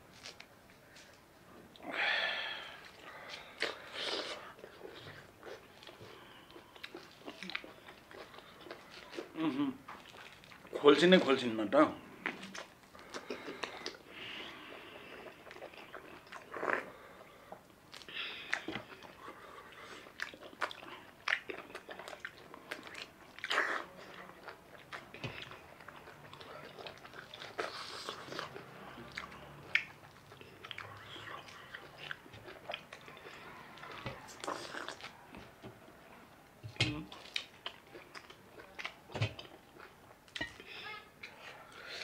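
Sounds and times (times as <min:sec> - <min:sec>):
chewing orange segments: 0:02.8 - 0:11.4, 0:12.0 - 0:40.6.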